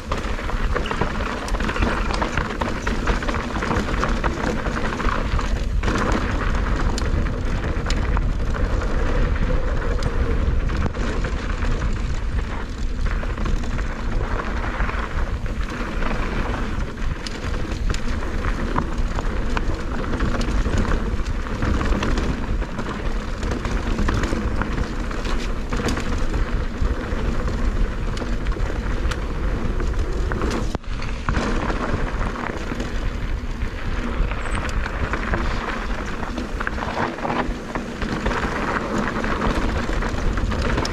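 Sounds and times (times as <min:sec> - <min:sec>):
bike rattling: 0:00.0 - 0:40.9
tyres crunching over loose stones: 0:00.0 - 0:40.9
wind rushing over microphone: 0:00.0 - 0:40.9.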